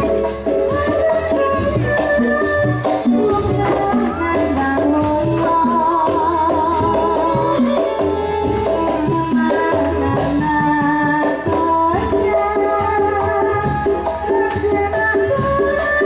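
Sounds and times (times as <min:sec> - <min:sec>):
drum strokes: 0:00.0 - 0:15.6
sustained melody line: 0:00.0 - 0:16.0.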